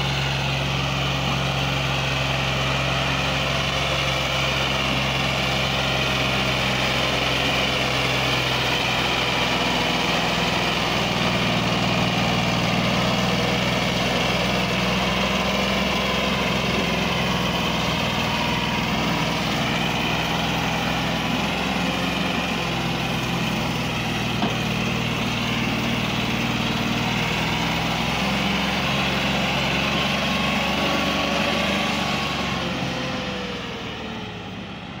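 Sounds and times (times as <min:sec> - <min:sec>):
tractor diesel engine labouring: 0:00.0 - 0:35.0.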